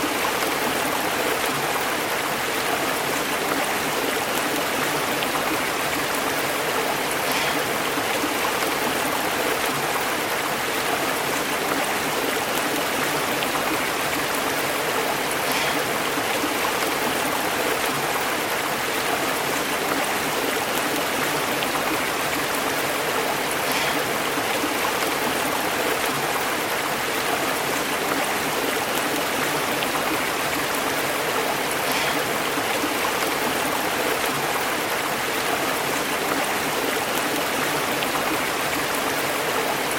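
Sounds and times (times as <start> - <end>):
stream water burbling over rocks: 0.0 - 39.9.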